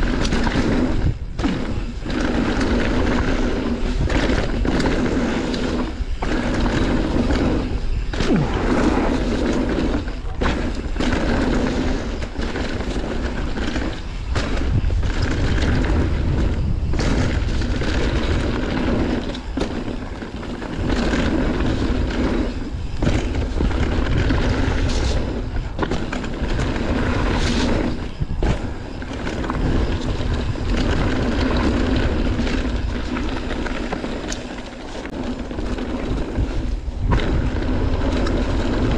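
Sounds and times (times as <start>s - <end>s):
bike knocks and rattles: 0.0s - 38.9s
bike tyres rolling on rough surface: 0.0s - 38.9s
wind on microphone: 0.0s - 38.9s.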